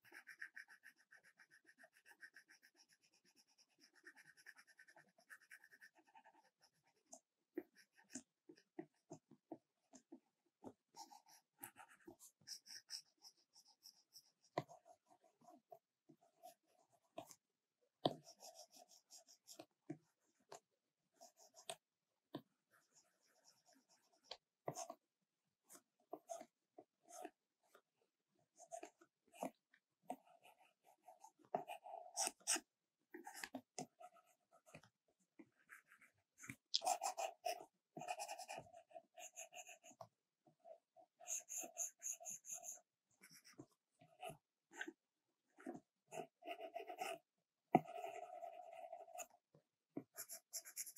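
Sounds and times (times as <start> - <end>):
stylus strokes on screen: 0.0 - 9.3, 9.9 - 17.4, 18.0 - 25.0, 28.4 - 45.0, 45.6 - 50.9.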